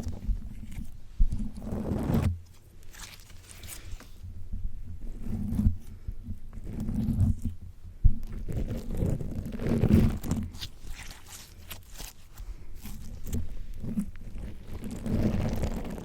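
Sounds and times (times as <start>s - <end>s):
slime squelching on microphone: 0.0s - 4.2s, 5.0s - 16.0s.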